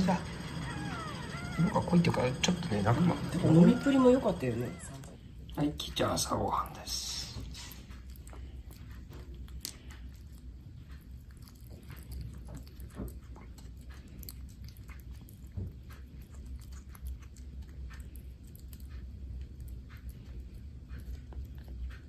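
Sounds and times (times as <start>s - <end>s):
steady low hum: 0.0s - 22.0s
kitten crunching food: 0.1s - 22.0s.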